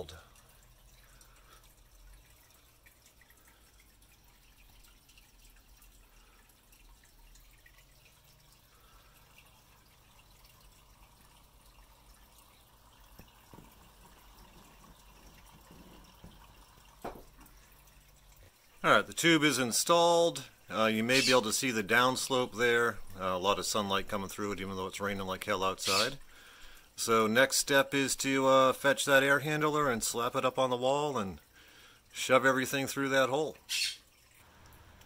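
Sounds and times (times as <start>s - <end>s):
faint rain dripping: 0.0s - 35.0s.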